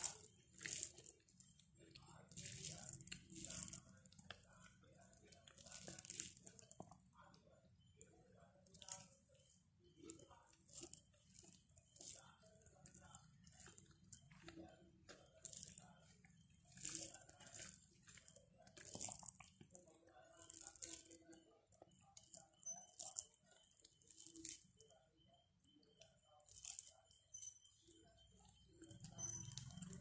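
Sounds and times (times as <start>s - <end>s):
food mixed by hand on plate: 0.0s - 7.4s, 8.1s - 24.8s, 26.1s - 26.9s
soft crunchy chewing: 0.0s - 30.0s.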